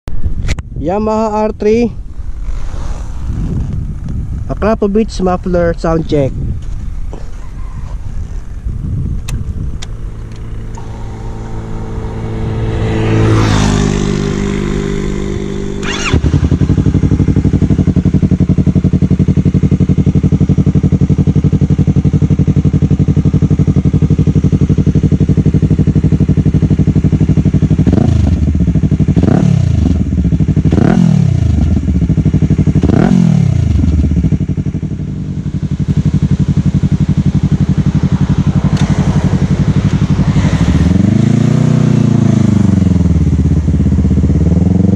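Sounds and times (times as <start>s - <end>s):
motorcycle engine revving: 1.3s - 44.9s.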